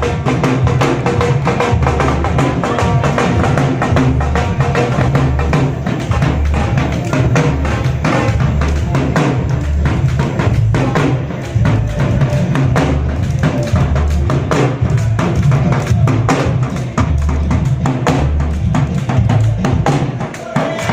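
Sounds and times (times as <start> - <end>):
loud music with heavy bass: 0.0 - 20.9.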